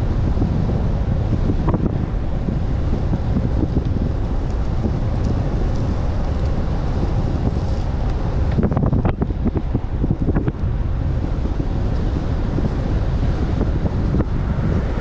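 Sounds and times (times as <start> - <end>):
heavy wind buffeting microphone: 0.0 - 15.0.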